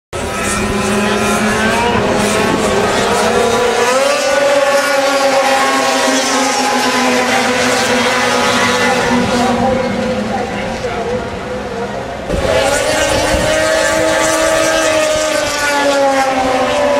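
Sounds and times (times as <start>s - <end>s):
snowmobile engines revving high: 0.2s - 16.9s.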